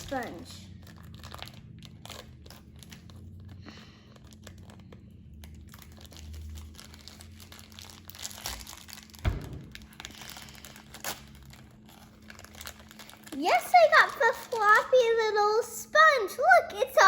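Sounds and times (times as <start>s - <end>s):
plastic packaging crinkling: 0.0s - 15.1s.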